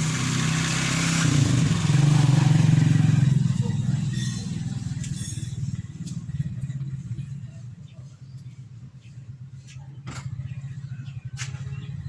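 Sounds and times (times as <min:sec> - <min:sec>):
vehicle engine pulsing: 0:00.0 - 0:12.0.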